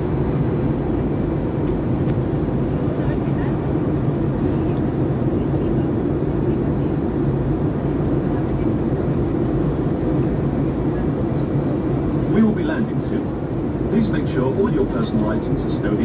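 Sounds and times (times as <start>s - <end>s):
airliner cabin engine drone: 0.0s - 16.0s
faint steady hum: 0.0s - 16.0s.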